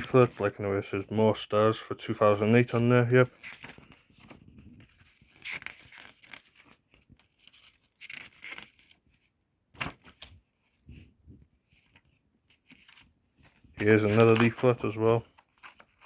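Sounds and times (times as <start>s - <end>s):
paper rustling: 0.0s - 0.8s, 2.5s - 16.0s.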